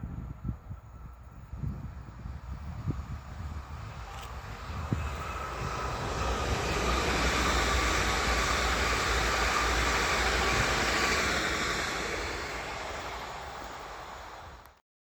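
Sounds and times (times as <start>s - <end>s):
electric train passing at speed: 0.0s - 14.8s.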